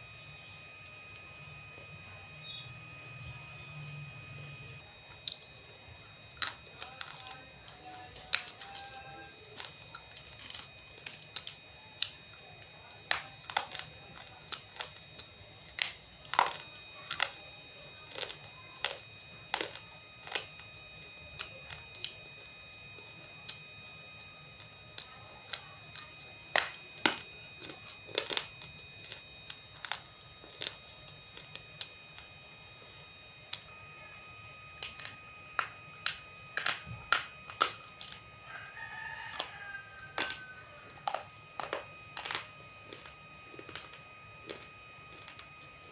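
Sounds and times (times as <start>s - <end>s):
crunching clay being eaten: 5.1s - 32.6s, 34.7s - 45.9s.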